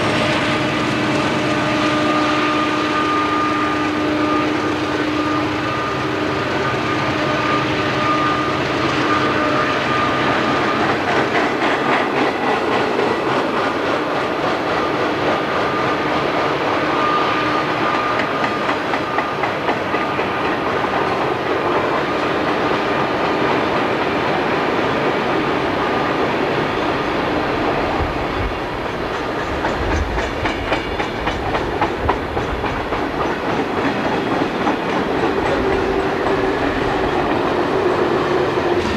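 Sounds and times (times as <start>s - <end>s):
steel wheels rumbling on rail: 0.0s - 38.9s.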